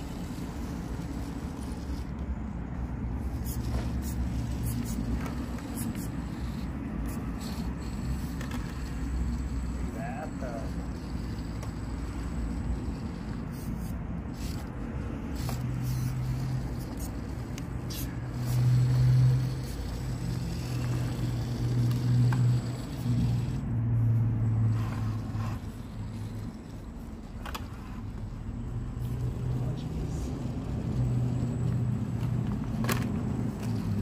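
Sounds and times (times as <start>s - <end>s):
small electric motor and gears droning: 0.0s - 34.0s.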